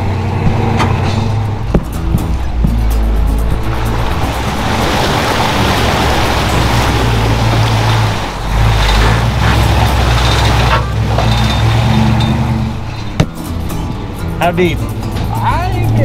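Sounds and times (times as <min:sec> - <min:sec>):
tires splashing through water: 0:00.0 - 0:16.0
truck engine running low: 0:00.0 - 0:16.0.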